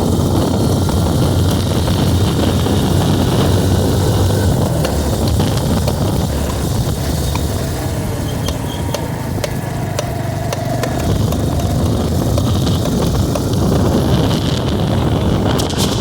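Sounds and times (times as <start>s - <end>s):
motorcycle engine running: 0.0s - 16.0s
sharp clicks from rear wheel: 0.4s - 14.9s.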